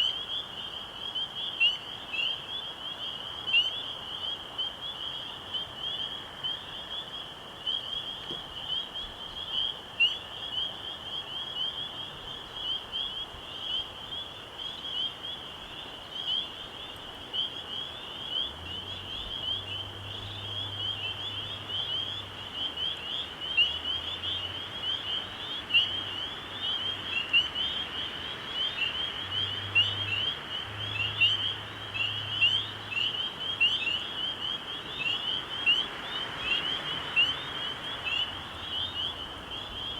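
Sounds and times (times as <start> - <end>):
frogs peeping: 0.0 - 39.9.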